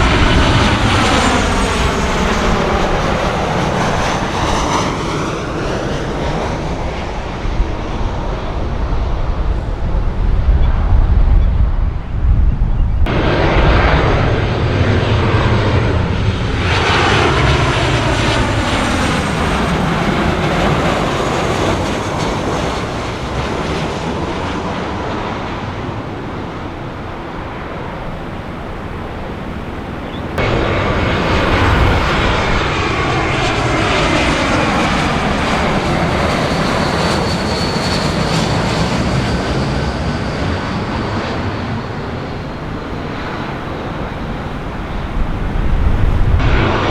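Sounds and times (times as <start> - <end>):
jet airliner passing: 0.0 - 46.9.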